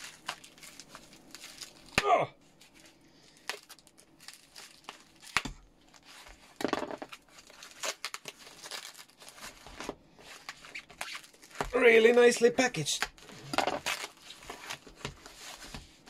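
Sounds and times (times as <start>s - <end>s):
foam wrap tearing: 0.0s - 11.8s, 13.2s - 16.0s
foam wrap crinkling and rustling: 0.0s - 16.0s.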